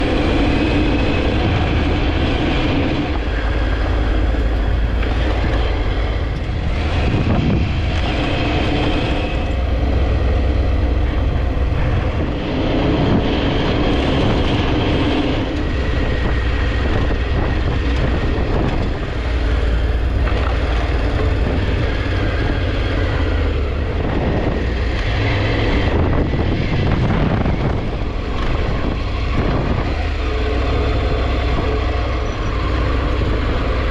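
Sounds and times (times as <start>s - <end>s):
motorcycle engine running: 0.0s - 33.9s
wind rumble on microphone: 0.0s - 33.9s.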